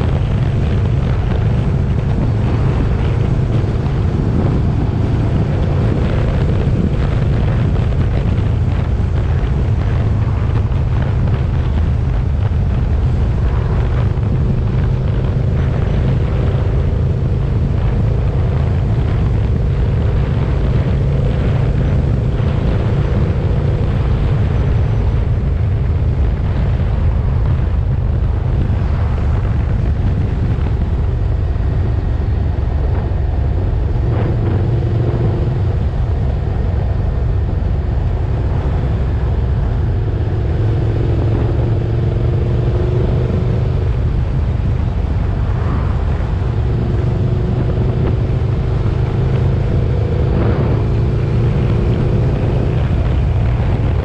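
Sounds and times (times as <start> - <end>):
motorcycle engine cruising: 0.0 - 54.0
wind rumbling on microphone: 0.0 - 54.0.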